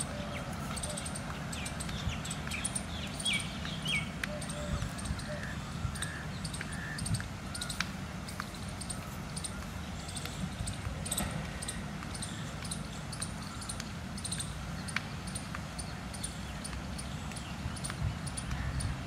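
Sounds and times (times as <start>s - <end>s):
distant fountain hiss: 0.0s - 19.0s
wind rumble on microphone: 0.0s - 19.0s.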